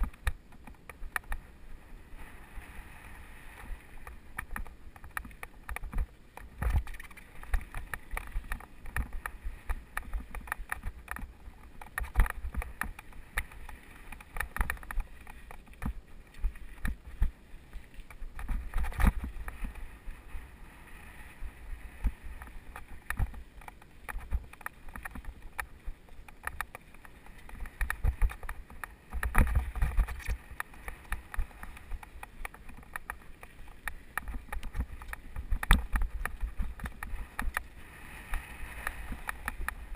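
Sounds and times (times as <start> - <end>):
mountain bike rattling on dirt trail: 3.6 - 39.9.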